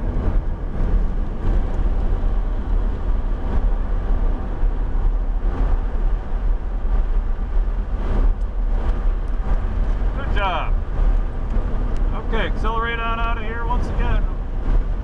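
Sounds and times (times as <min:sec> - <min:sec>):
car engine under power: 0:00.0 - 0:15.0
tyre and road noise: 0:00.0 - 0:15.0.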